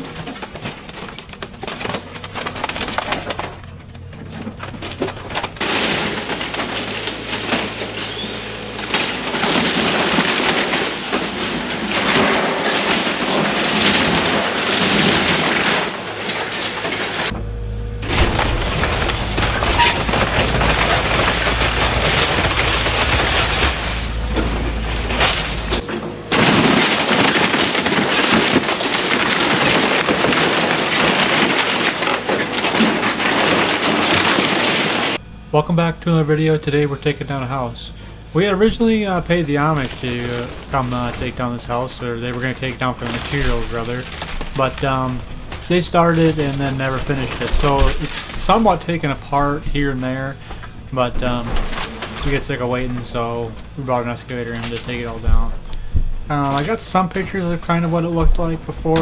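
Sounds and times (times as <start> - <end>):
diesel engine: 0.0 - 59.0
heavy low rumble: 0.0 - 59.0
timber splintering and boards crashing: 0.0 - 59.0.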